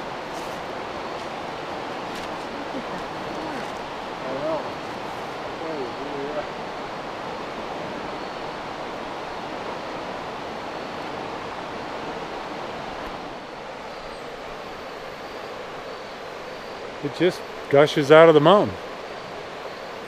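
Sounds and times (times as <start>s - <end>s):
water gushing and rushing: 0.0s - 20.0s.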